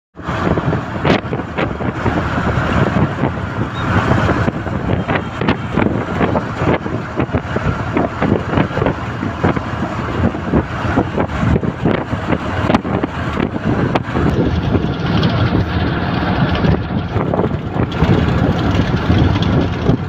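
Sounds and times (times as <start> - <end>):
engine rumble: 0.2 - 20.0
wind buffeting microphone: 0.2 - 20.0.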